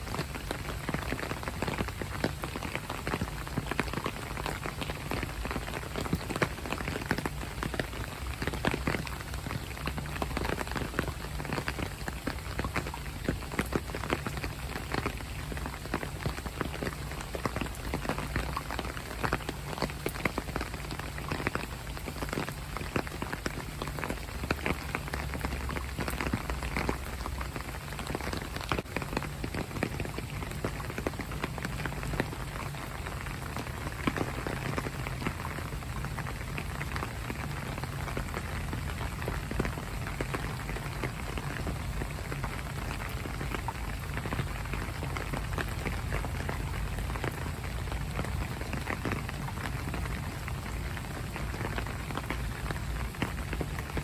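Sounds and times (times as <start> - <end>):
low rain rumble: 0.0 - 54.0
raindrops ticking on hard surfaces: 0.0 - 54.0.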